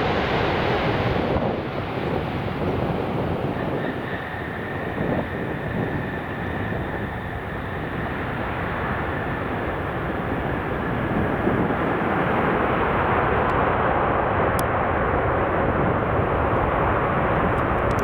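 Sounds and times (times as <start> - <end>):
faint high engine whine: 0.0 - 18.0
jet engines rushing: 0.0 - 18.0.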